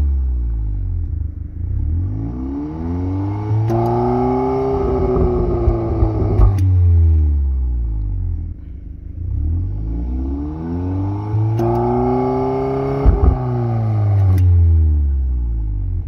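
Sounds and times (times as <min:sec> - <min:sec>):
car engine revving: 0:00.0 - 0:16.0
exhaust cracks: 0:00.9 - 0:14.8.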